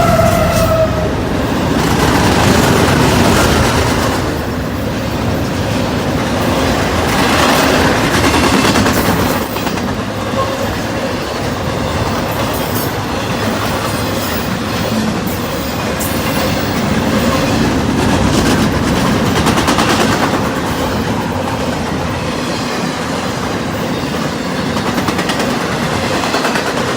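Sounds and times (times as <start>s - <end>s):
freight train rumbling past: 0.0s - 26.9s
wheels clacking over rail joints: 0.0s - 26.9s.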